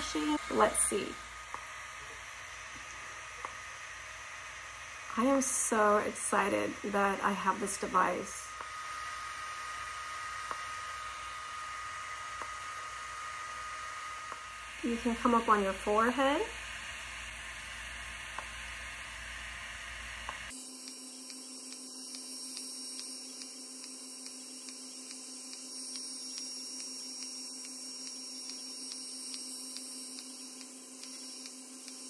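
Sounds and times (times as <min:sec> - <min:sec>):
cooling fan humming: 0:00.0 - 0:32.0.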